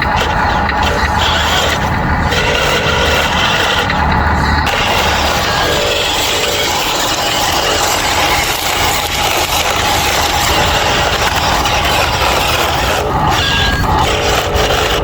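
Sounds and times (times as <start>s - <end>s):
toy machinery motors running: 0.0s - 15.0s.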